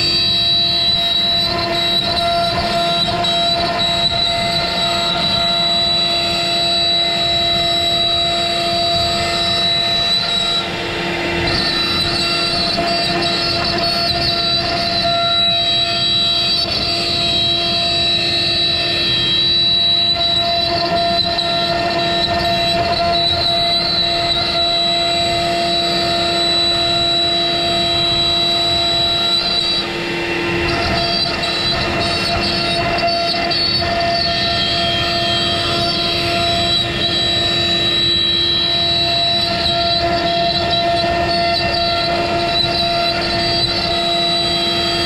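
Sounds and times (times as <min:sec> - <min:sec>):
bit cutting wood: 0:00.0 - 0:45.0
router spindle high whine: 0:00.0 - 0:45.0.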